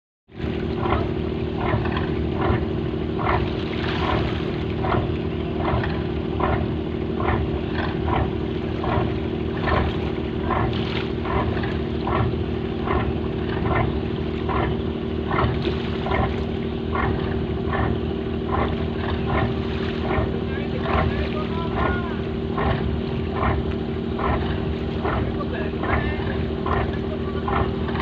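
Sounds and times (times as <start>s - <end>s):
boat engine running: 0.3s - 28.0s.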